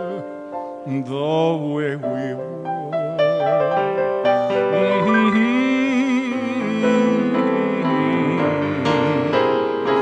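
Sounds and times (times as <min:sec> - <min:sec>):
person singing: 0:00.0 - 0:10.0
piano playing slow ballad: 0:00.0 - 0:10.0.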